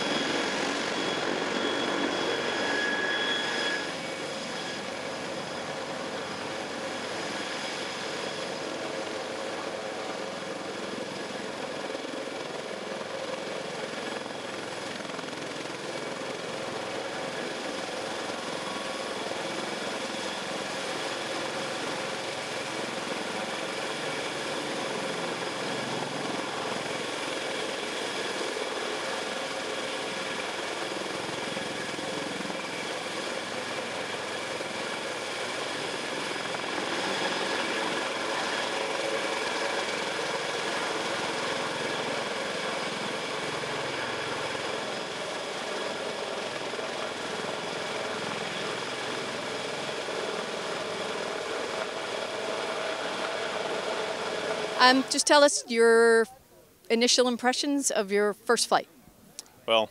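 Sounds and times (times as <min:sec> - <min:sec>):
helicopter rotor noise: 0:00.0 - 0:58.8.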